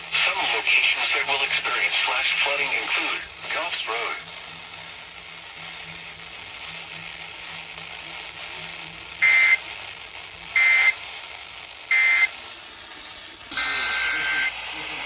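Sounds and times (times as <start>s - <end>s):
radio hiss: 0.0s - 15.0s.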